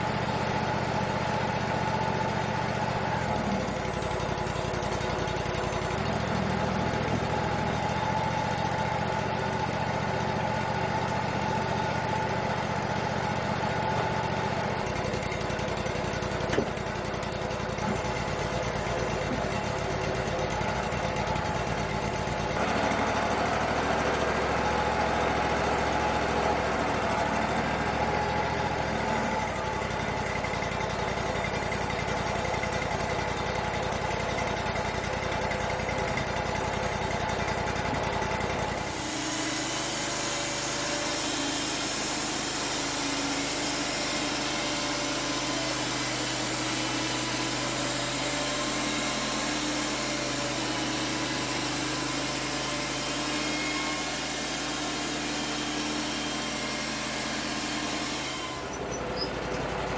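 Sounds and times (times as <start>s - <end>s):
sawmill engine and band saw: 0.0s - 59.9s.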